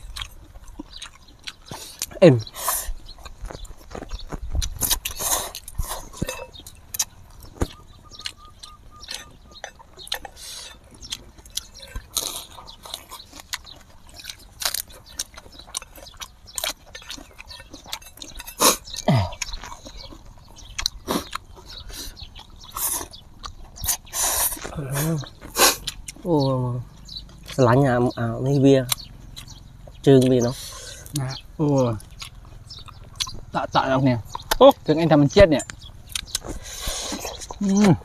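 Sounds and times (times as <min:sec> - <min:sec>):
mouth smacks and clicks: 0:00.0 - 0:34.8, 0:35.6 - 0:38.0
chewing and crunching: 0:00.0 - 0:38.0.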